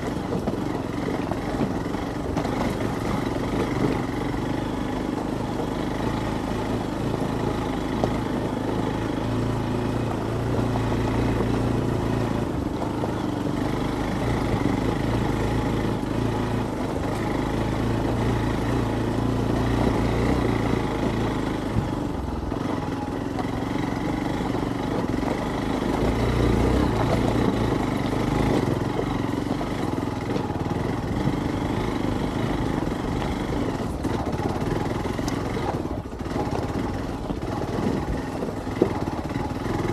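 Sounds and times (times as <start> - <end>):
motorcycle engine at low revs: 0.0 - 39.9
ride noise: 0.0 - 39.9.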